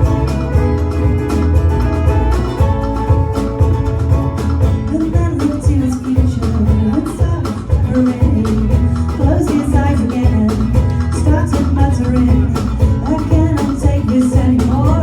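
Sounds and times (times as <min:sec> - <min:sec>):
bass guitar: 0:00.0 - 0:15.0
live band playing: 0:00.0 - 0:15.0
steady drum beat: 0:00.0 - 0:15.0.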